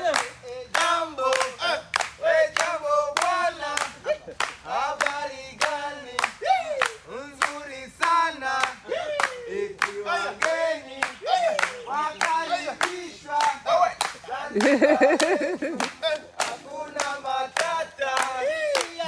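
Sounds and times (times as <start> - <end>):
hand claps: 0.0 - 19.0
man singing a chant: 0.0 - 19.0.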